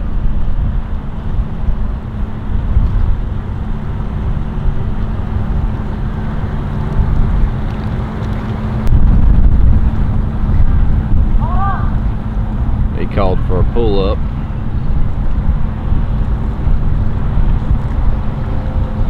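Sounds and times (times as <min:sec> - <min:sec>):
outboard motor humming: 0:00.0 - 0:19.0
wind rumbling on microphone: 0:00.0 - 0:19.0.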